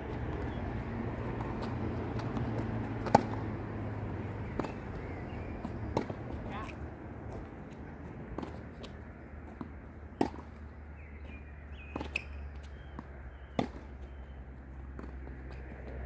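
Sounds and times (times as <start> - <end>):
tennis ball hitting racket: 0.0 - 7.5, 8.1 - 10.6, 11.9 - 14.0, 14.9 - 16.0.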